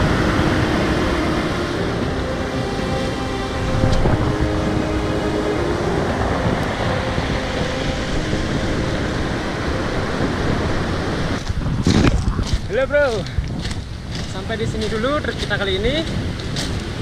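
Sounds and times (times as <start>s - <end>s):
surf breaking on shore: 0.0s - 17.0s
wind rumbling on microphone: 0.0s - 17.0s.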